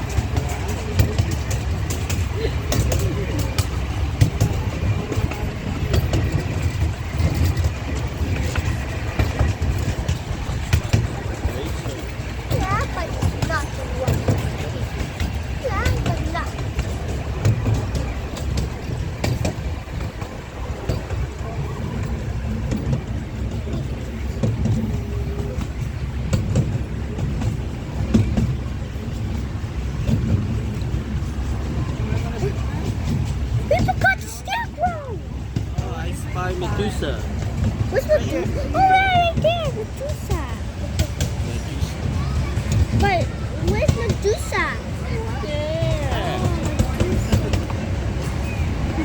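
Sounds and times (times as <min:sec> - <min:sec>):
ride car rumbling on track: 0:00.0 - 0:49.0
wheels and couplings knocking: 0:00.0 - 0:49.0.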